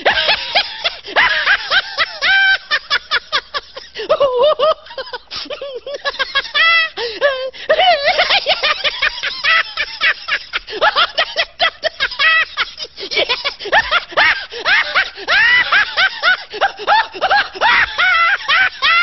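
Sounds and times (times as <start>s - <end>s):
high-pitched cackling laughter: 0.0s - 19.0s.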